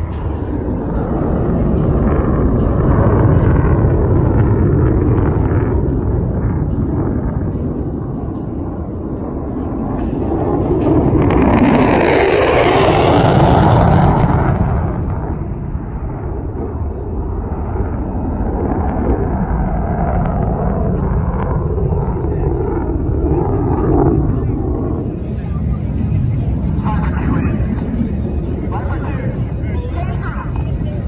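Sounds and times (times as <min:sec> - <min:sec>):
fighter jet rumble: 0:00.0 - 0:31.0.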